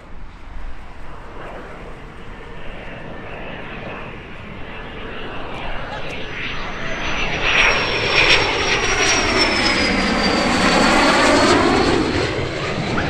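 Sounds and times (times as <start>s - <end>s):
fighter jet engine roar: 0.0s - 13.0s.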